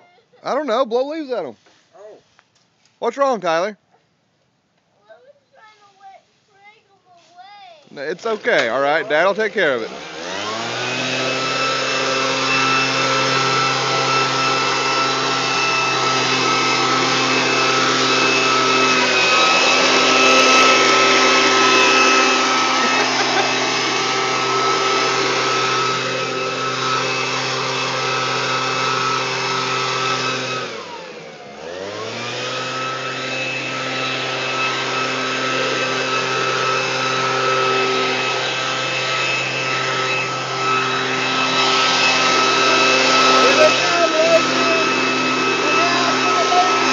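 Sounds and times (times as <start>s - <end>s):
leaf blower running: 7.9s - 46.9s.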